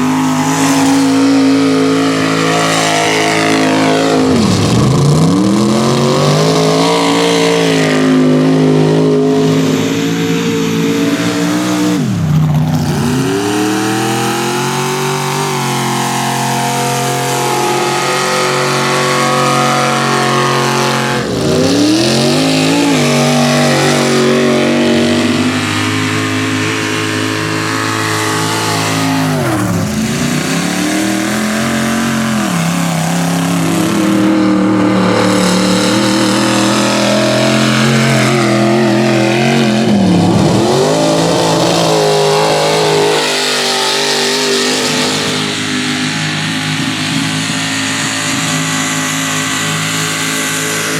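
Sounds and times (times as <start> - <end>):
mud truck engine revving loud: 0.0 - 50.9.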